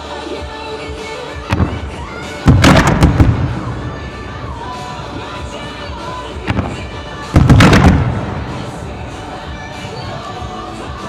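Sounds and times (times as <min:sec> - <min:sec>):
music: 0:00.0 - 0:11.0
fireworks bursting: 0:01.3 - 0:11.0.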